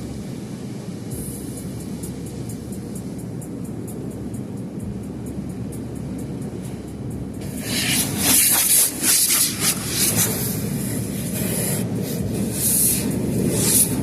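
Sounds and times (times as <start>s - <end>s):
high-pressure water jets spraying: 0.0s - 14.0s
steady low rumble: 0.0s - 14.0s.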